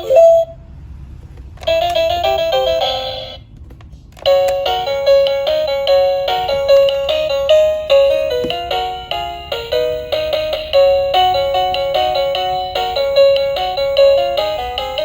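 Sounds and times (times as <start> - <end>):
electronic toy beeping melodies: 0.0 - 0.6, 1.6 - 3.4, 4.2 - 15.0.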